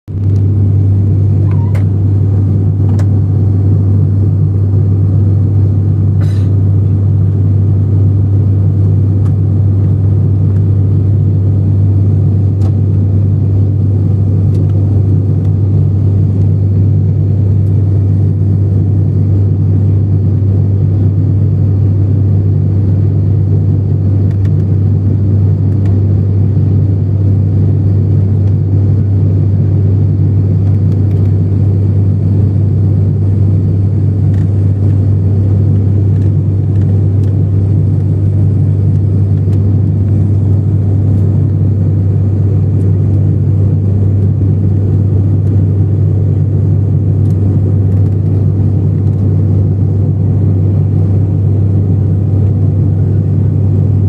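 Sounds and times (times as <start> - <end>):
propeller plane engine drone: 0.1 - 54.0.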